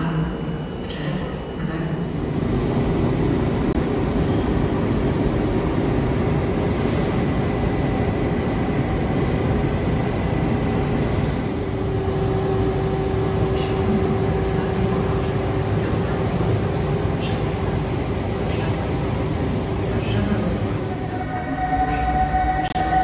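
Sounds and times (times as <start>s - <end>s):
steady whining tones: 0.0s - 23.0s.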